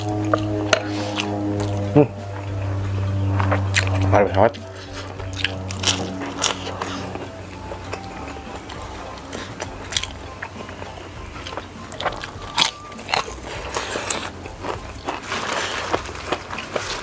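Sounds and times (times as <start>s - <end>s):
crunching and chewing crispy food: 0.0s - 17.0s.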